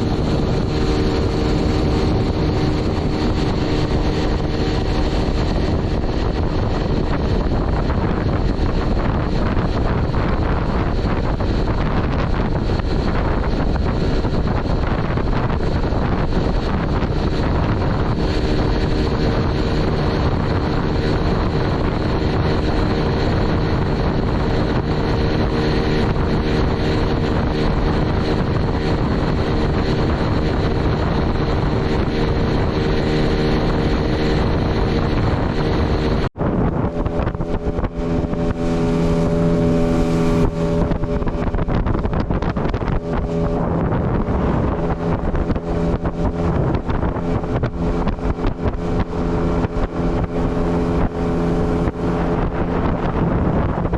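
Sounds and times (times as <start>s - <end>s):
outboard motor running: 0.0s - 53.9s
water rushing: 0.0s - 53.9s
wind buffeting microphone: 0.0s - 53.9s.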